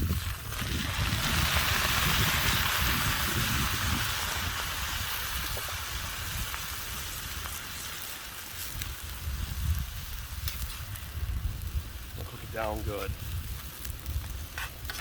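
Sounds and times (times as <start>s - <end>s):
beer sizzling in hot pan: 0.0s - 15.0s.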